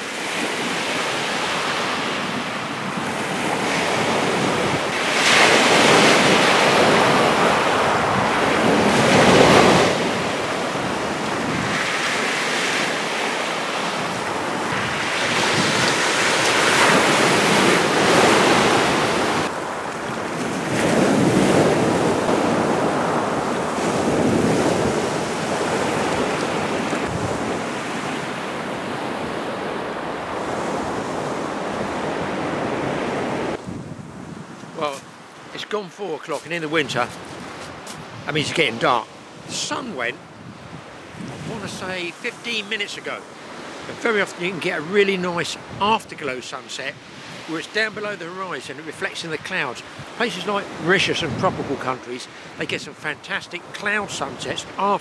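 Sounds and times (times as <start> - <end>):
waves breaking on shingle beach: 0.0 - 55.0.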